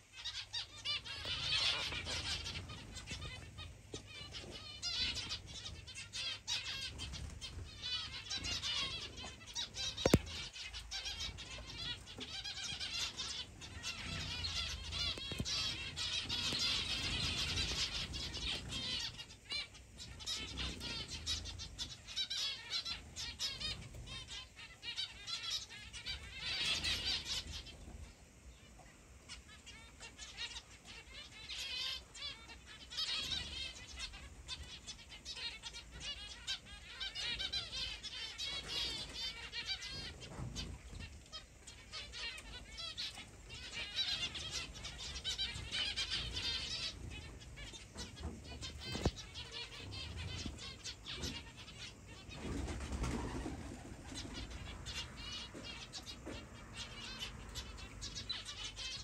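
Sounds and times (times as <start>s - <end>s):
finches chirping: 0.0s - 28.7s, 29.3s - 59.0s.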